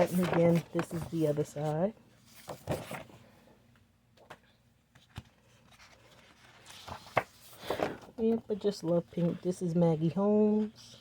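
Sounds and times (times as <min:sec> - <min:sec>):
paper rustling: 0:00.0 - 0:03.3, 0:04.2 - 0:10.8.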